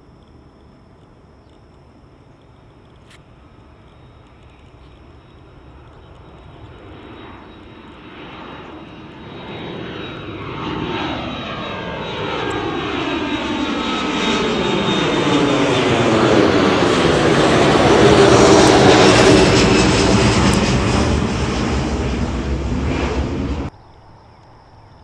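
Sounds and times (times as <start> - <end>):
jet engines roaring at takeoff: 0.0 - 23.7.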